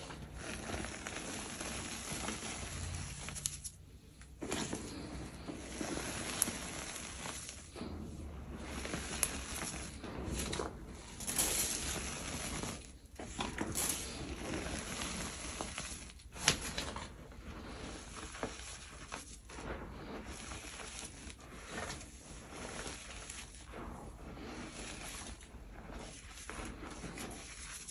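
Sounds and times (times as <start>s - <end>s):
hands crumbling powdery chalk: 0.0s - 27.9s.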